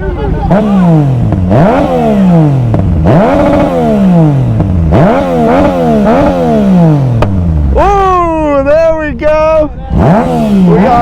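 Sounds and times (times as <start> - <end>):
car engine revving: 0.0 - 8.4, 9.8 - 11.0.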